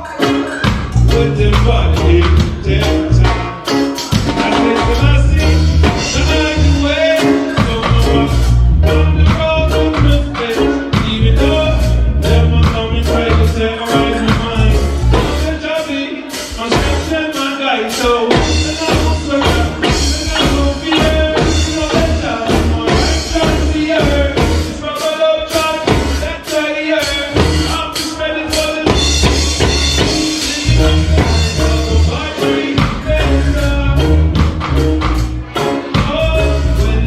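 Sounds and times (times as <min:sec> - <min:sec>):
deep bass line: 0:00.0 - 0:37.0
drum kit: 0:00.0 - 0:37.0
person singing: 0:00.0 - 0:37.0
reggae band playing: 0:00.0 - 0:37.0.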